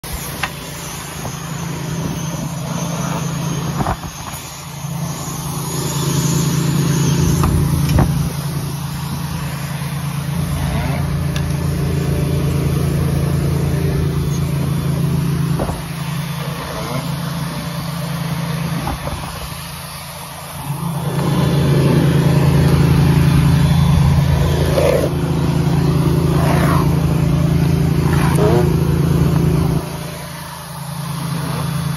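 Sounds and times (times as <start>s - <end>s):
roofing equipment drone: 0.0s - 31.9s.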